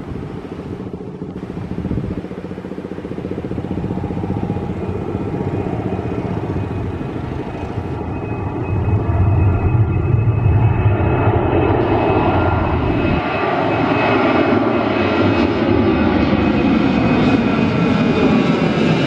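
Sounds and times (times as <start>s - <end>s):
jet engines at take-off: 0.0s - 19.0s.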